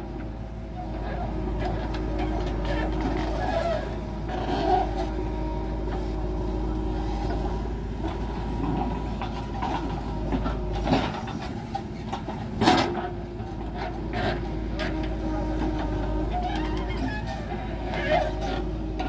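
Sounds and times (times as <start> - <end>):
diesel engine under load: 0.0 - 19.0.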